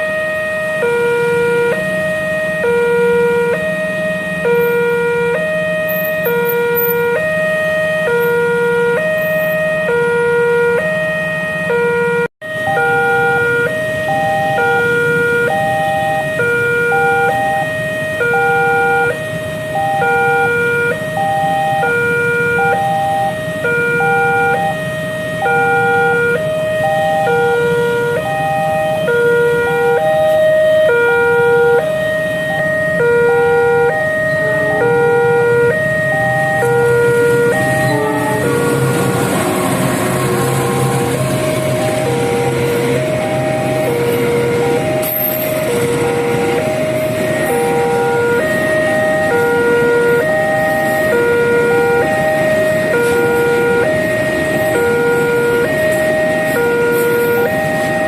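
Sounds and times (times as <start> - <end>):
two-tone crossing siren: 0.0 - 58.0.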